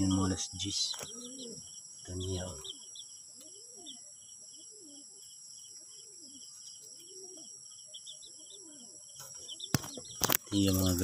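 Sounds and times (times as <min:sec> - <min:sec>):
crickets chirping: 0:00.0 - 0:11.0
pigeon cooing: 0:00.0 - 0:11.0.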